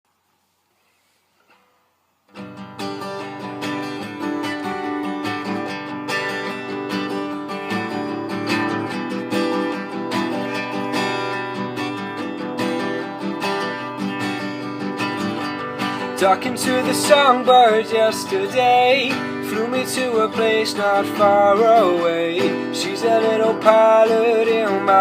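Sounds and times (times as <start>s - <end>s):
acoustic guitar strumming: 1.4s - 25.0s.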